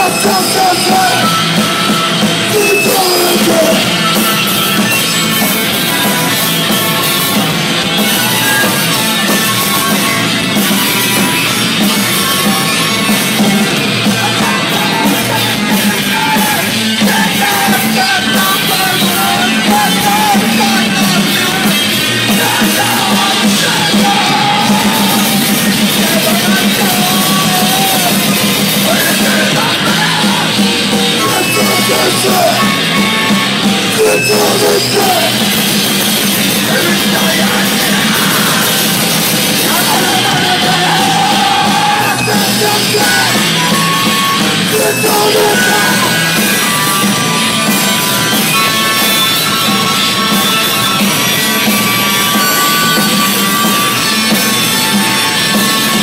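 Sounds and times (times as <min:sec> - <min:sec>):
distorted guitar: 0:00.0 - 0:56.0
drums: 0:00.0 - 0:56.0
yelled vocals: 0:00.0 - 0:56.0.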